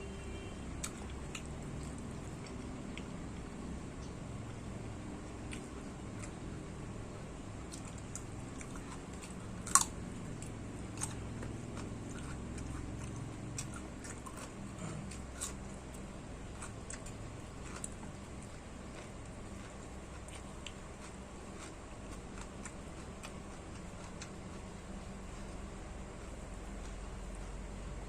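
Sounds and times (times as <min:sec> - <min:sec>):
person chewing food: 0:00.7 - 0:28.0.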